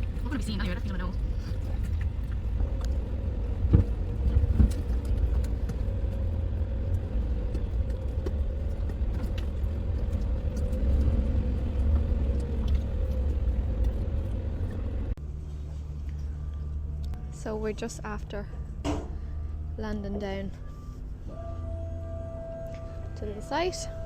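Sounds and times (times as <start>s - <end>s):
vehicle driving rumble: 0.0s - 24.0s.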